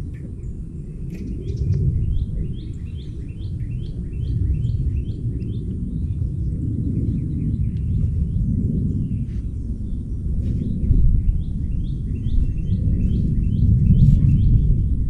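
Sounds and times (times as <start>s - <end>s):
bird chirping: 0.0s - 8.4s, 9.1s - 15.0s
low rumble of outdoor noise: 0.0s - 15.0s.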